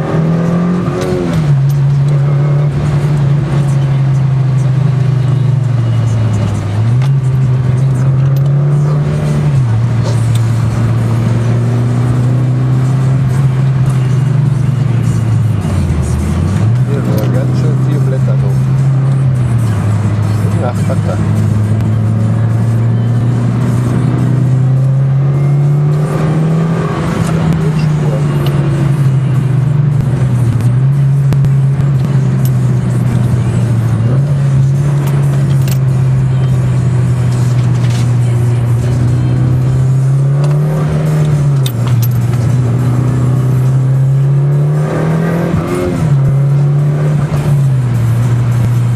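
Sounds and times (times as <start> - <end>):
car engine from inside cabin: 0.0 - 48.9.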